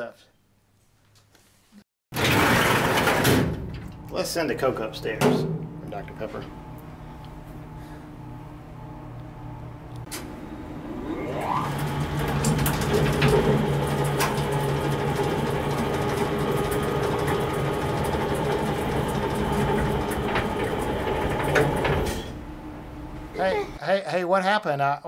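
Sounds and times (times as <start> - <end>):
lift motor whine and hum: 2.2 - 23.8.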